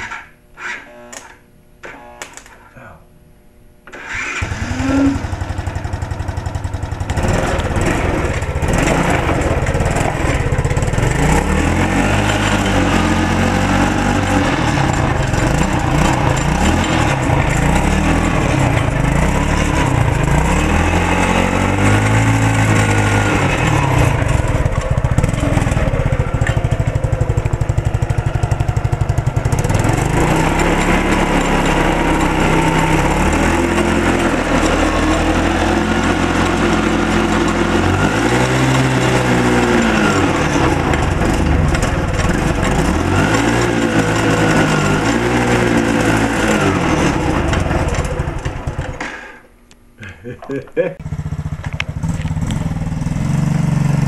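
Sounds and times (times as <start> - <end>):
small engine revving: 3.9 - 49.3, 51.0 - 54.0.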